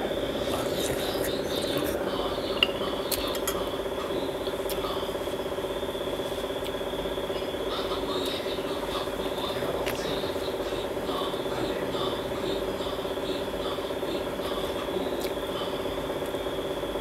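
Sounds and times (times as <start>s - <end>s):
faint high whine: 0.0s - 17.0s
steady low hum: 0.0s - 17.0s.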